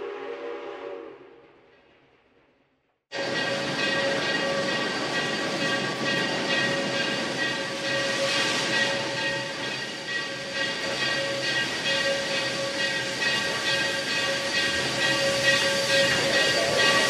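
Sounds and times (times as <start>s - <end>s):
train running: 3.1s - 17.0s
steady high tones: 3.2s - 17.0s.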